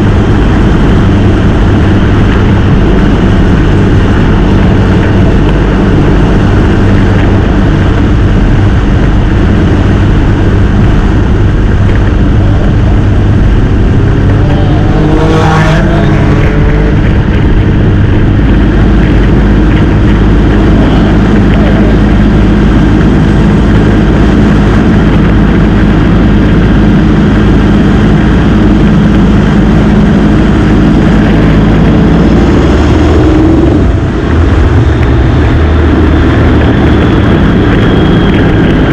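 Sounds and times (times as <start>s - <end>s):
heavy wind noise: 0.0s - 38.9s
motorcycle engine running: 0.0s - 38.9s.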